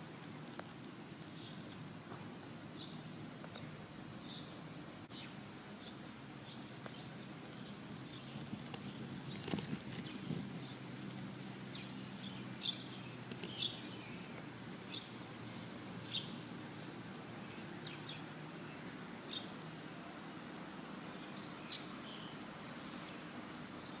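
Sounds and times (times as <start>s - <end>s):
small songbirds chirping: 0.0s - 24.0s
steady low background noise: 0.0s - 24.0s.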